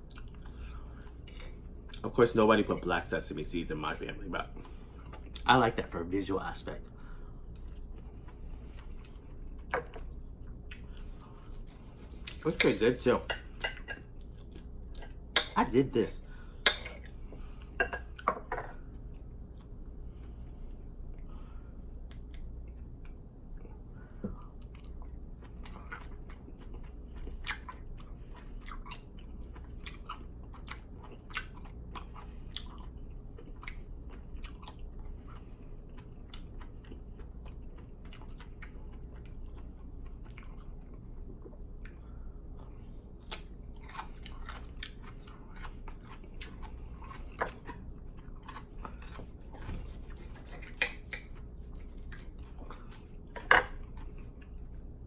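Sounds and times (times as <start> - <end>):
person chewing food: 0.0 - 2.0, 7.3 - 15.6, 16.4 - 55.0.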